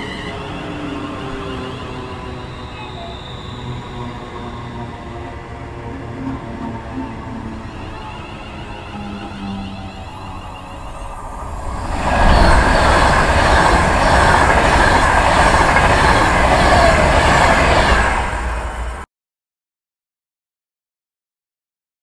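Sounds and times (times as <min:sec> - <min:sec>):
electric train passing at speed: 0:00.0 - 0:19.1.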